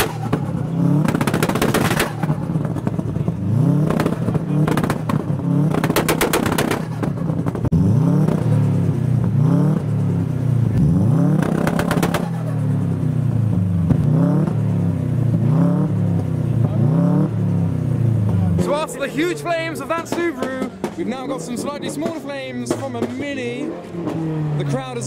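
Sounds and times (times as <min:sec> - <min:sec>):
exhaust pops and bangs: 0:00.0 - 0:10.0, 0:10.6 - 0:16.8, 0:18.2 - 0:25.0
car engine revving: 0:00.0 - 0:25.0.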